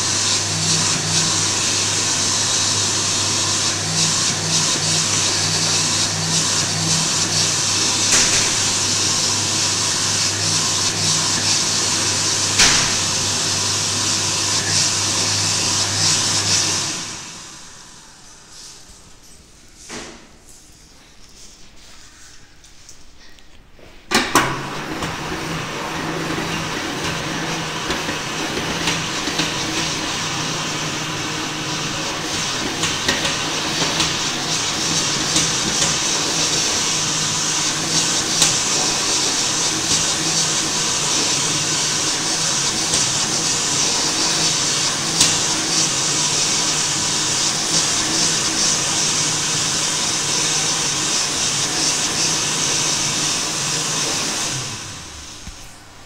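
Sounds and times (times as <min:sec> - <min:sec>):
hand dryer blowing air: 0:00.0 - 0:20.3, 0:24.1 - 0:56.0.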